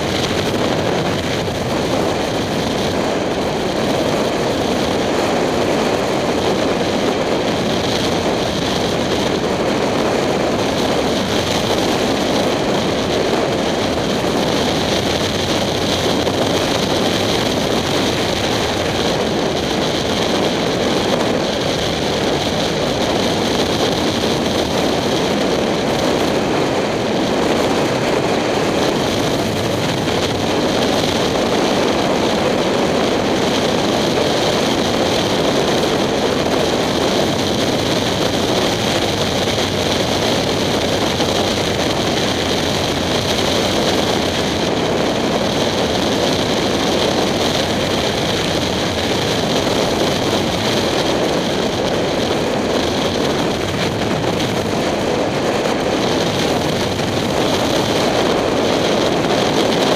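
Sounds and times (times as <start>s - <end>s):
motorcycle engine cruising: 0.0s - 59.9s
wind rush over camera: 0.0s - 59.9s.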